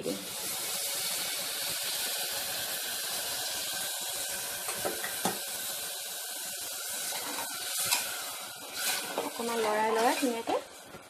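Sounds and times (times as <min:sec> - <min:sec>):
water sizzling in hot pot: 0:00.0 - 0:11.0.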